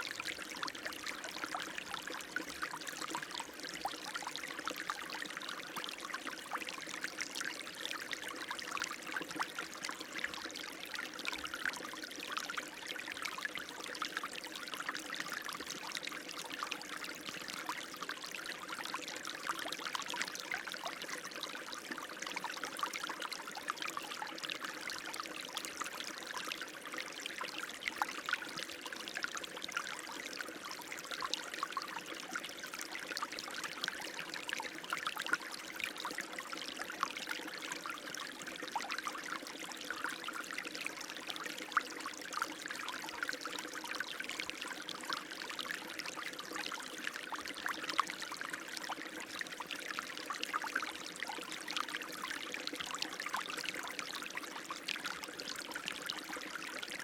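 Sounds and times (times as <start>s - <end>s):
water flowing and trickling: 0.0s - 57.0s.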